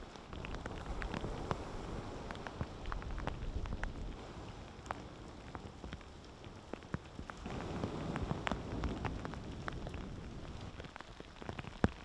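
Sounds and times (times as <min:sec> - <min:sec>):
rain falling: 0:00.0 - 0:12.0
wind rumble on microphone: 0:00.0 - 0:12.0.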